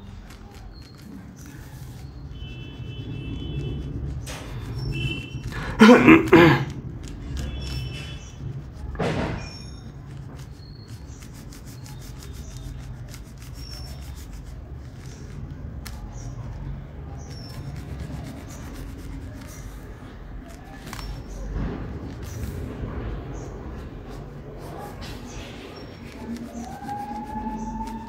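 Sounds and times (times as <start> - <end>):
crayon scribbling on paper: 0.0 - 28.0.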